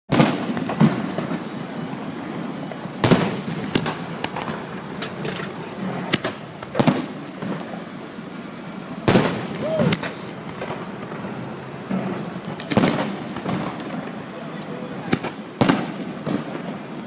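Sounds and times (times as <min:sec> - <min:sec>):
fireworks exploding: 0:00.1 - 0:17.0
low background rumble: 0:00.4 - 0:15.1.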